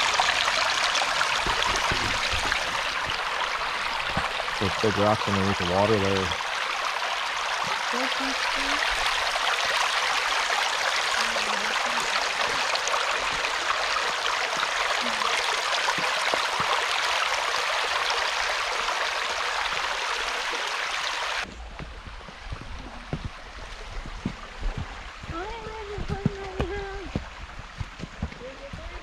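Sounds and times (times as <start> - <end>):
creek water running over rocks: 0.0 - 29.0.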